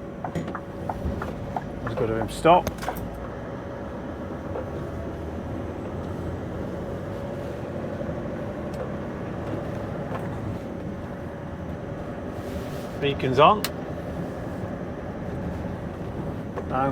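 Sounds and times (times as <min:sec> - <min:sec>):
lorry engine rumbling: 0:00.0 - 0:16.9.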